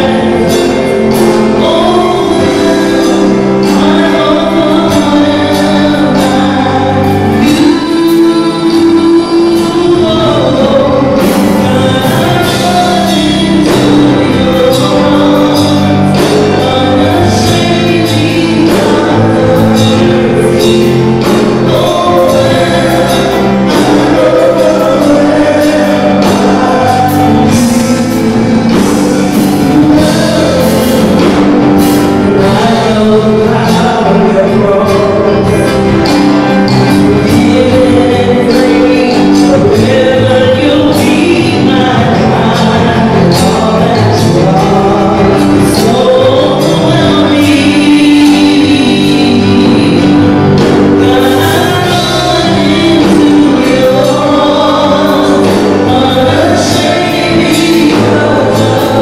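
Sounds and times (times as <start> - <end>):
choir singing gospel music: 0.0 - 59.0
percussion hits: 0.0 - 59.0.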